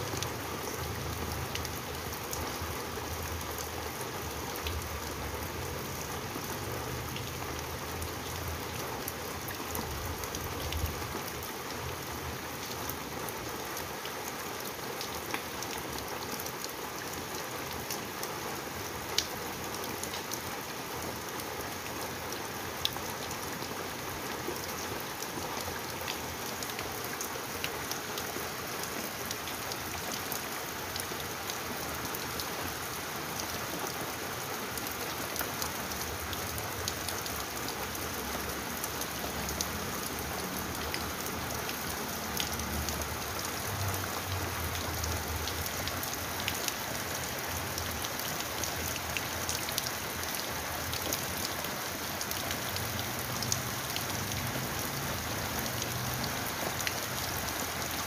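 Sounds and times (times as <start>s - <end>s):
raindrops ticking on surface: 0.0s - 58.0s
steady rain falling: 0.0s - 58.0s.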